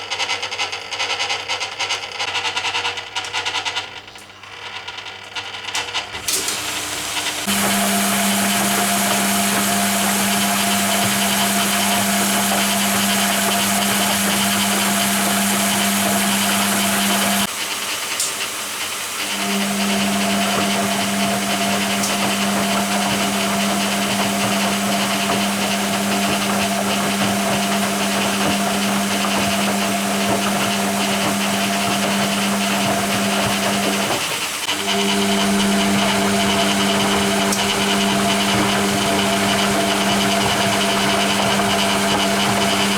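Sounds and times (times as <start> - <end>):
washing machine hum: 5.7 - 42.9
water hissing into drum: 6.2 - 42.9.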